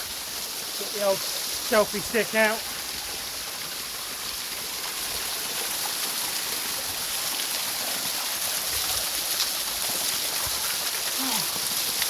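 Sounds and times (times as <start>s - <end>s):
small waterfall splashing: 0.0s - 12.0s.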